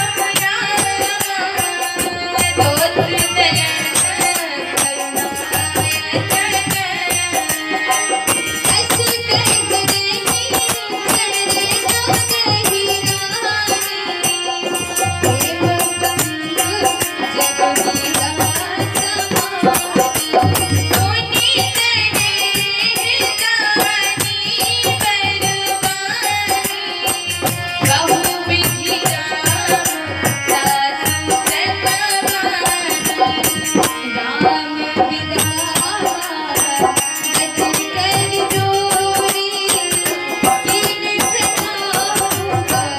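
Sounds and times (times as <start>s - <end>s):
harmonium chords: 0.0s - 42.9s
woman singing devotional song: 0.0s - 42.9s.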